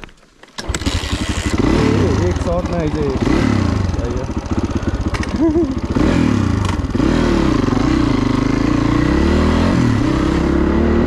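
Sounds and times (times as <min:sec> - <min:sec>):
dirt bike engine running: 0:00.6 - 0:11.0.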